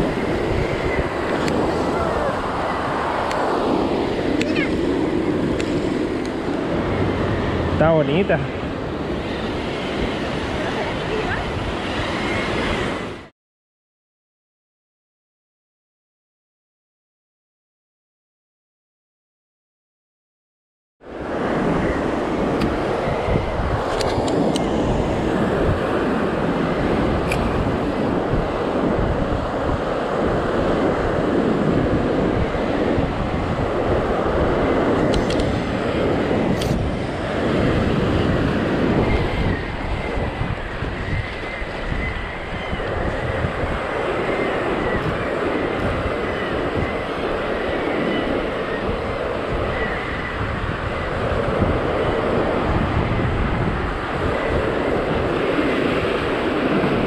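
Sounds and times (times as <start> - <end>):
wind buffeting microphone: 0.0 - 13.3, 21.0 - 57.0.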